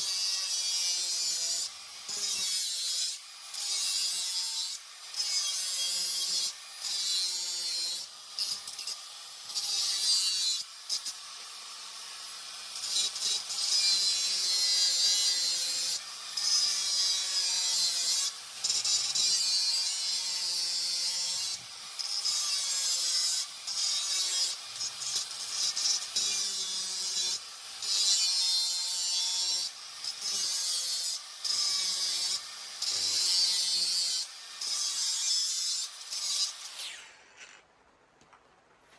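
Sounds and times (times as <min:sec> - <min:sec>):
power grinder grinding metal: 0:00.0 - 0:37.7.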